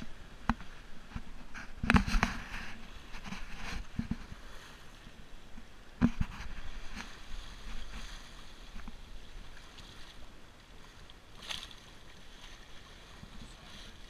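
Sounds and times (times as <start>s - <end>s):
water splashing along hull: 0.0s - 14.0s.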